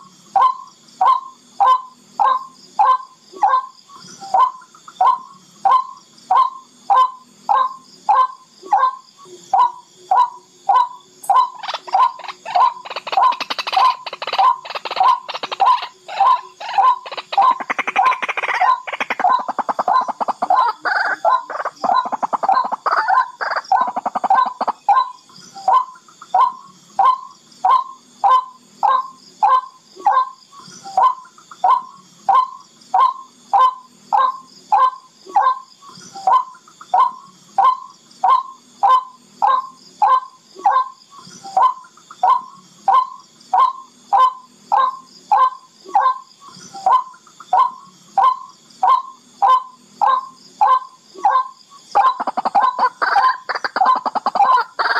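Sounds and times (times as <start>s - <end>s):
bird calling: 0.0s - 54.9s.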